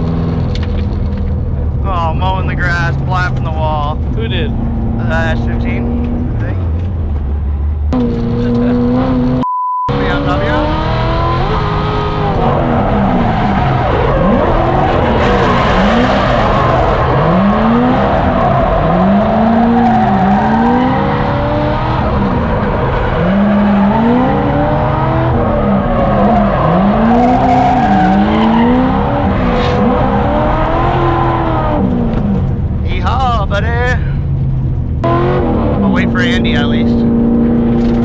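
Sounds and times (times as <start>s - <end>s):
car engine revving: 0.0s - 38.0s
tires screeching: 0.0s - 38.0s.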